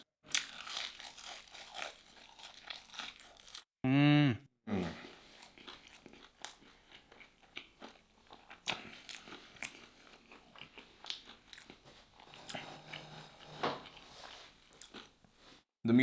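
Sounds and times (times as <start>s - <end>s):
crunchy chewing of crispy food: 0.0s - 3.7s, 5.0s - 13.0s, 13.8s - 15.2s.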